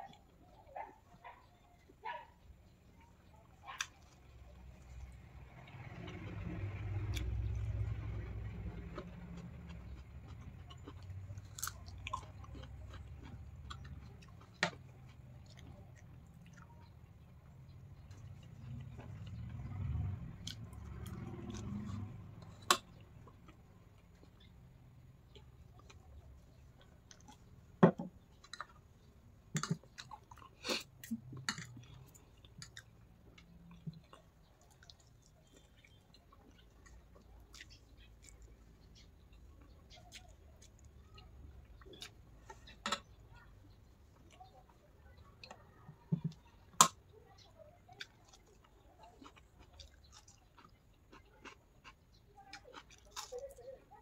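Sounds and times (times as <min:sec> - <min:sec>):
person chewing food: 0:05.6 - 0:47.1, 0:47.8 - 0:54.0.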